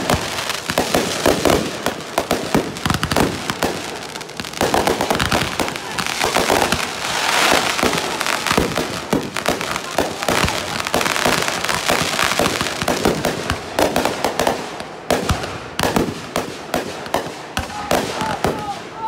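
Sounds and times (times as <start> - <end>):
fireworks bangs and pops: 0.0 - 18.8.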